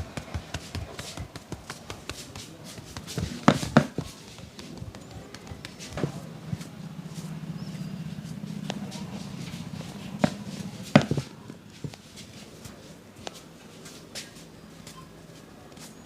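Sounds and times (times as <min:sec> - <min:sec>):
low steady hum: 0:00.0 - 0:13.8
hands smacking during massage: 0:00.0 - 0:14.4.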